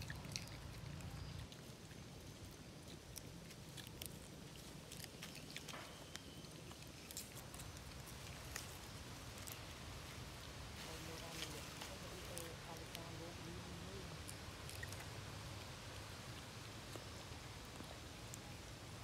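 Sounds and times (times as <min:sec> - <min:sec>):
low steady rumble: 0:00.0 - 0:19.0
monkeys chewing plant stalks: 0:00.0 - 0:19.0.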